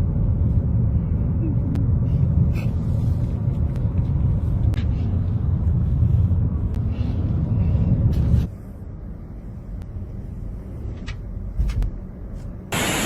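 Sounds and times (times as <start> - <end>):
car road and wind rumble: 0.0 - 13.0.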